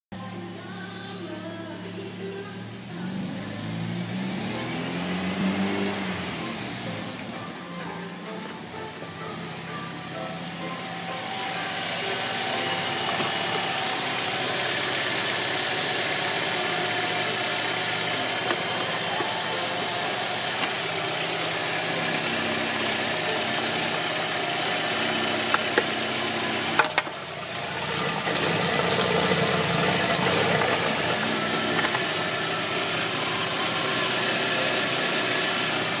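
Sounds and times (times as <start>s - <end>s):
car engine idling: 0.2s - 36.0s.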